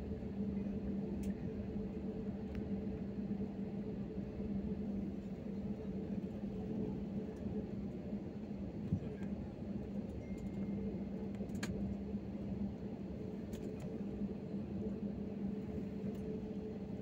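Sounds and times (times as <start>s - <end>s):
jet engine drone and rumble: 0.0s - 17.0s.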